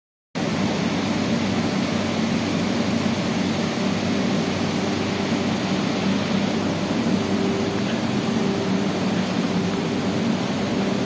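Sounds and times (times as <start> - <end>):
mechanical drone with hiss: 0.4 - 11.0.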